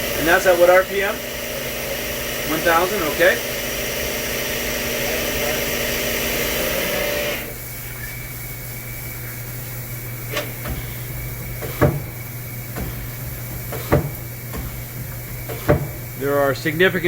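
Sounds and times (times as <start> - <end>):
machine humming: 0.0 - 17.0
spinning mill tool whirring: 0.0 - 17.0.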